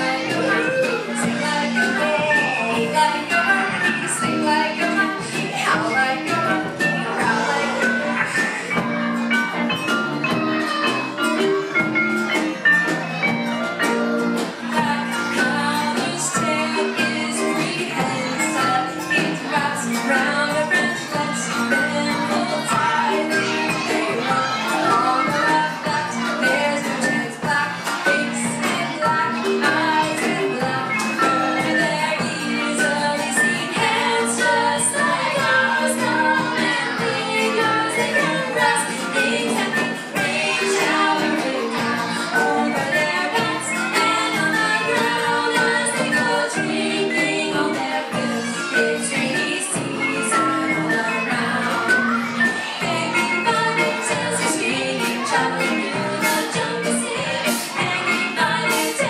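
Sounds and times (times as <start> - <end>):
person singing: 0.0 - 11.7, 12.3 - 59.0
live band playing upbeat song: 0.0 - 59.0.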